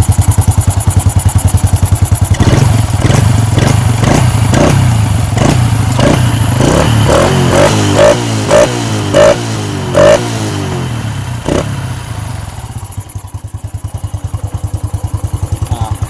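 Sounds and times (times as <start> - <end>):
regular engine knock: 0.0 - 9.3, 11.4 - 16.0
motorcycle engine running: 0.0 - 16.0.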